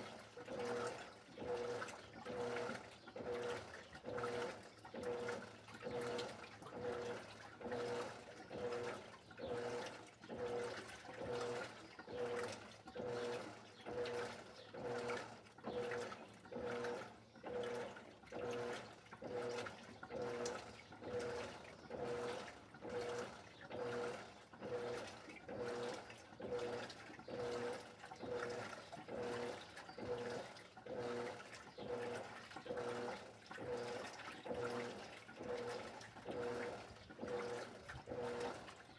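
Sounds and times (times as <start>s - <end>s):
washing machine agitating: 0.4s - 38.9s.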